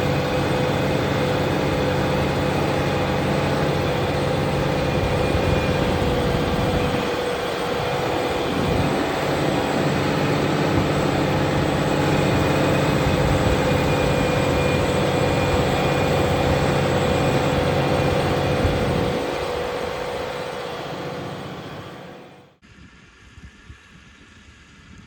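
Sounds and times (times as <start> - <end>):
steady whine: 0.0 - 22.6
tractor diesel engine under load: 0.0 - 22.6.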